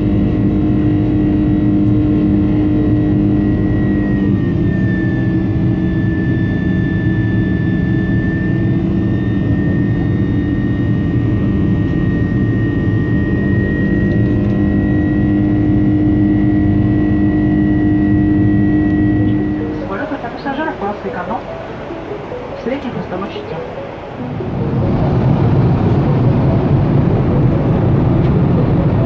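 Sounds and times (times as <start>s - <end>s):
jet engines heard from cabin: 0.0s - 29.0s.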